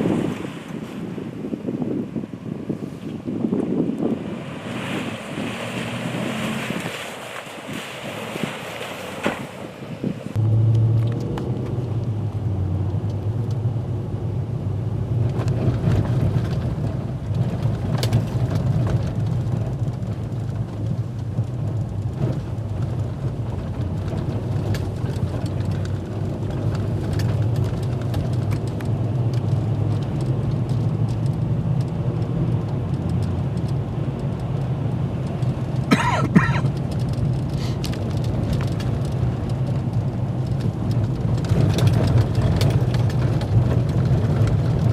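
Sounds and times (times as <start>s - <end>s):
truck engine and tyres rumbling: 0.0s - 44.9s.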